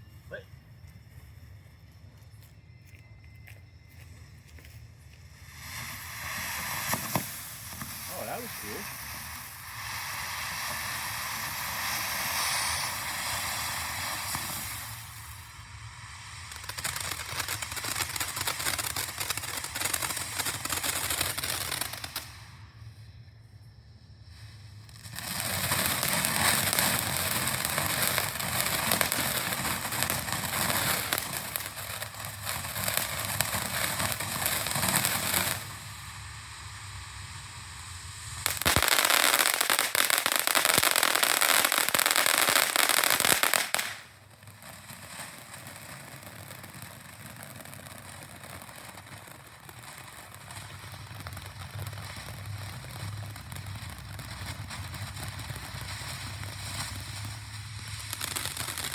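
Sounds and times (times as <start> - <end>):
fireworks fountain crackling: 0.0 - 2.7, 3.4 - 58.9.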